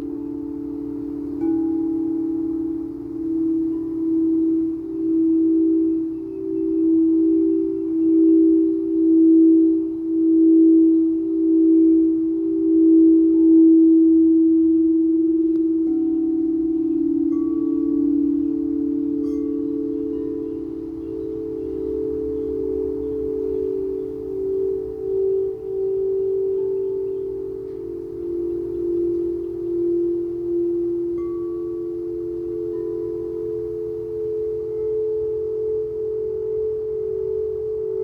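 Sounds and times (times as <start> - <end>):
faint high chime-like tones: 0.0 - 38.0
singing bowls ringing: 0.0 - 38.0.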